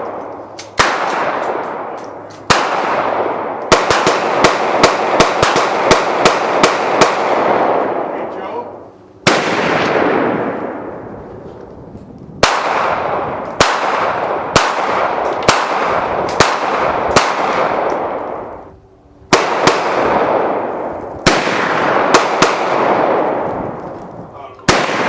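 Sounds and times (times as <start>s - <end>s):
gunshots with echo: 0.0s - 8.3s, 9.2s - 11.0s, 12.4s - 18.6s, 19.3s - 23.8s, 24.6s - 25.0s.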